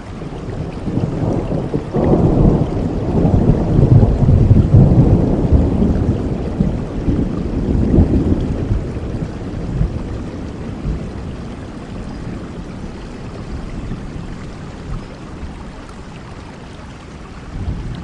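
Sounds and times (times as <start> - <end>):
steady rain: 0.0 - 18.0
thunder rumble: 0.5 - 15.9.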